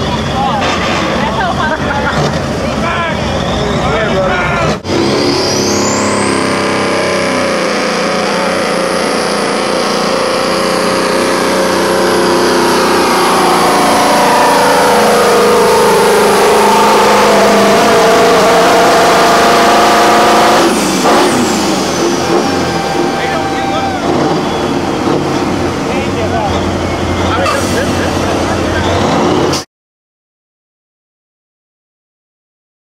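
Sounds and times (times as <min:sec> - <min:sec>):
diesel truck engine under load: 0:00.0 - 0:29.6.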